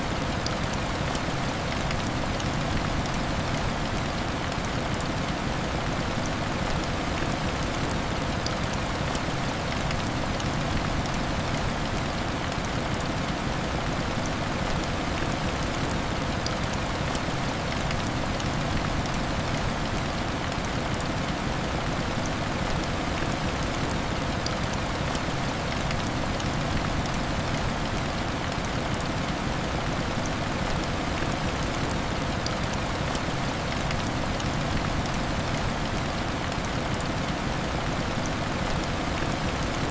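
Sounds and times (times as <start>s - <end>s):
raindrop ticks: 0.0s - 39.9s
heavy rain on window glass: 0.1s - 39.9s.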